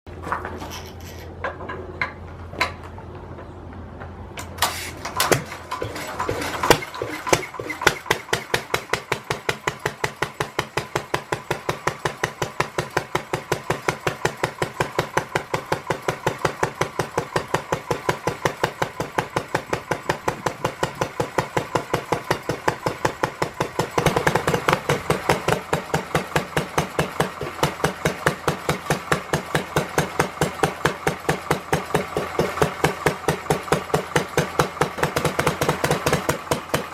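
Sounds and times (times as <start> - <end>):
stationary engine running: 5.2 - 36.9.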